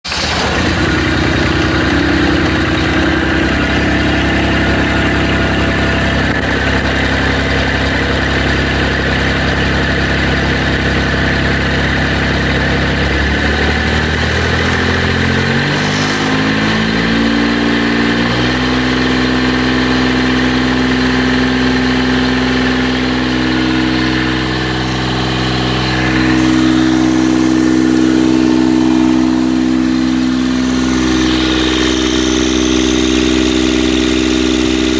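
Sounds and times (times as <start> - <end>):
diesel engine revving up: 0.1 - 34.9.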